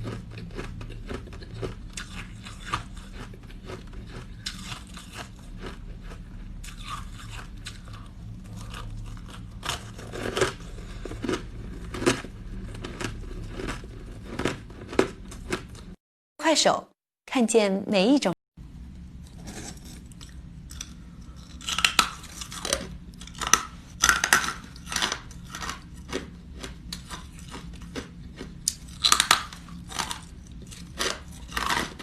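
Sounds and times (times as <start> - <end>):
ice crunching between teeth: 0.0 - 15.9, 19.4 - 32.0.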